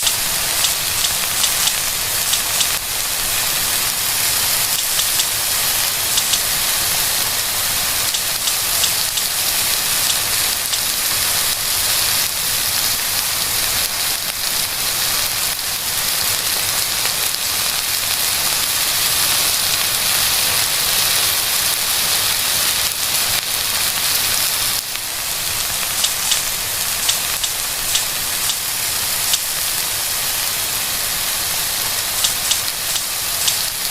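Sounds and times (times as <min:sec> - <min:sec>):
stir fry sizzling in a pan: 0:00.0 - 0:33.9.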